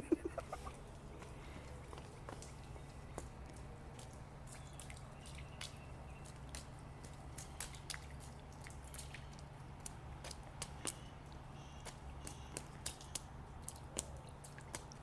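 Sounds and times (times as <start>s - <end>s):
low steady hum: 0.0s - 15.0s
water drips and small splashes: 0.0s - 15.0s.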